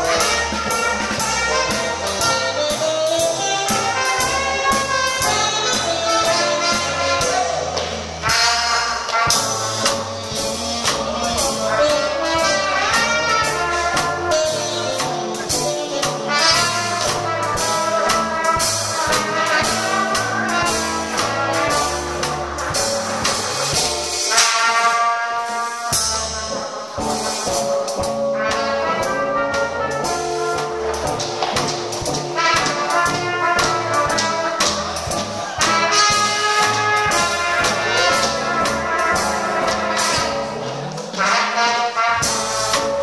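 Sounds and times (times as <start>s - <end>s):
drum kit beat: 0.0s - 43.0s
jazz horns: 0.0s - 43.0s.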